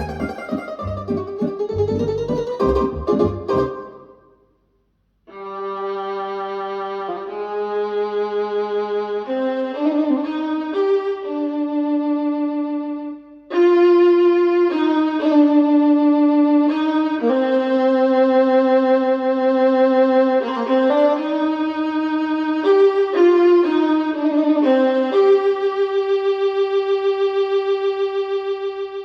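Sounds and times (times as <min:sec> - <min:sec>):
violin music through speaker: 0:00.0 - 0:04.0, 0:05.3 - 0:29.0.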